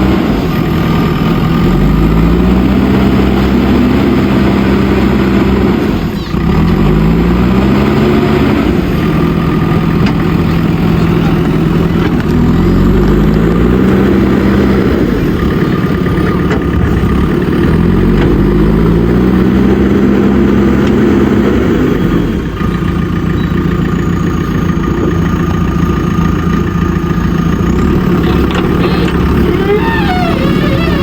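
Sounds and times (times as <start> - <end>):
backhoe diesel engine: 0.0 - 31.0.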